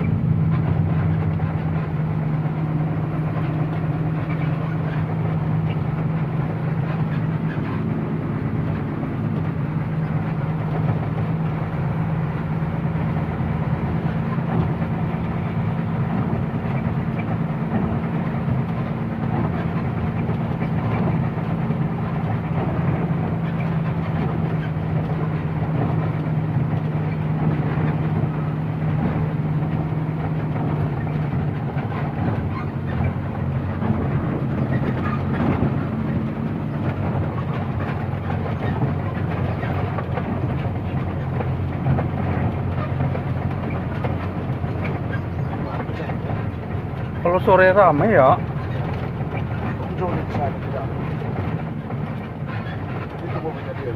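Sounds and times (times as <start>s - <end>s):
truck engine drone: 0.0s - 53.9s
tyre and road noise: 0.0s - 53.9s.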